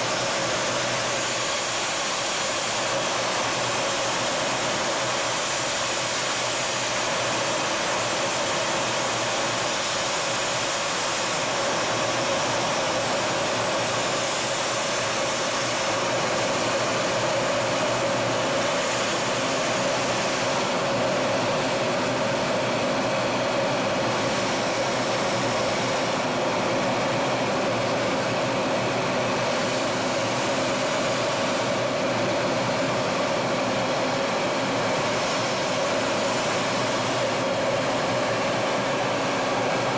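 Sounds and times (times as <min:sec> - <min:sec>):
jet cockpit engine and airflow: 0:00.0 - 0:39.9.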